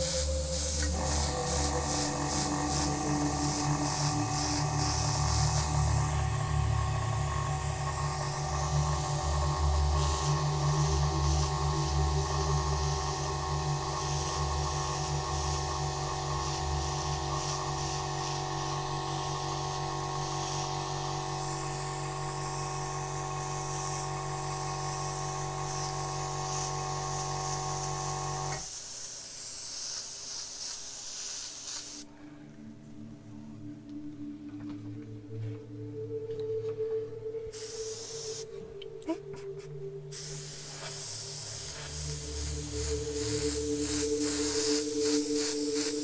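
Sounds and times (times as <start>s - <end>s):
steady multi-tone hum: 0.0s - 28.6s, 32.1s - 46.0s
airbrush air hiss: 0.0s - 32.1s, 37.4s - 46.0s.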